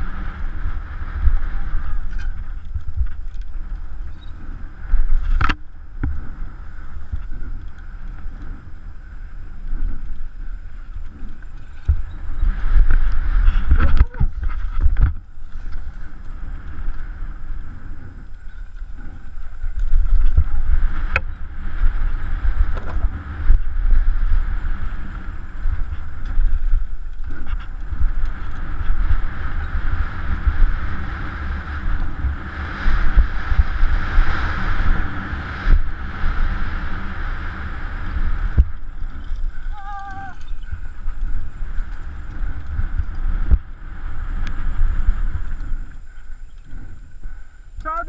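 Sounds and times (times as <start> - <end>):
bike rumbling over rough trail: 0.0 - 48.0
wind rushing over microphone: 0.0 - 48.0.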